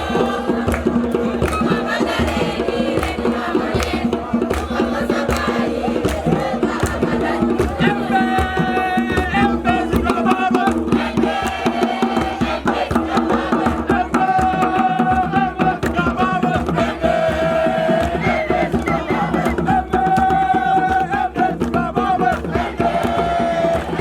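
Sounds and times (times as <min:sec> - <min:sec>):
group of voices chanting: 0:00.0 - 0:24.0
sharp drum or hand-clap strikes: 0:00.0 - 0:24.0
steady percussion: 0:00.0 - 0:24.0.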